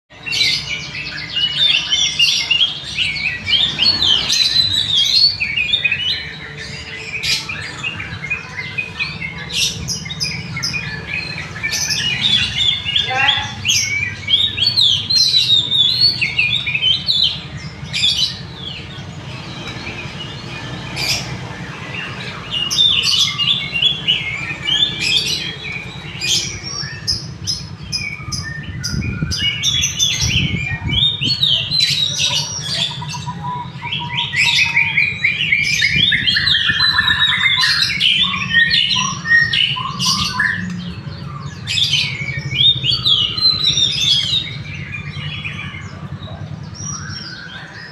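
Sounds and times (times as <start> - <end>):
caged songbirds chirping: 0.1 - 47.9.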